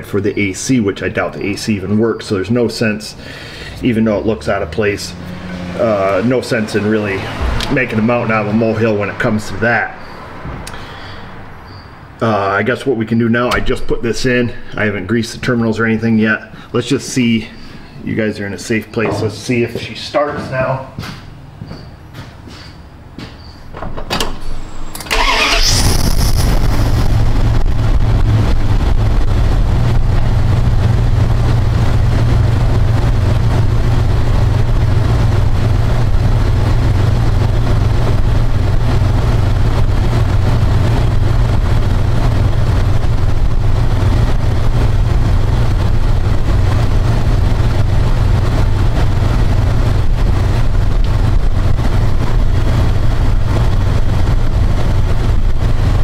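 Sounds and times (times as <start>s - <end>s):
pickup engine cranking and idling: 1.0s - 18.0s, 23.8s - 56.0s.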